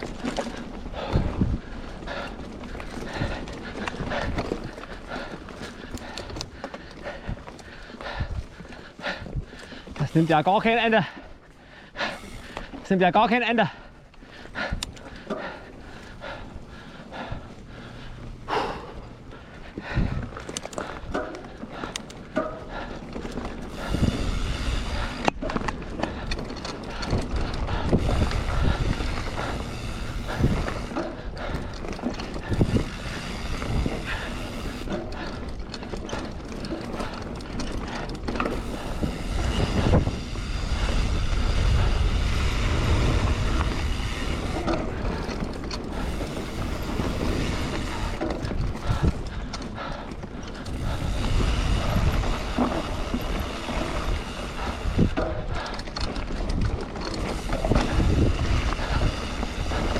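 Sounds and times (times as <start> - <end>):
bike rolling and rattling: 0.0 - 59.9
wind buffeting microphone: 0.0 - 59.9.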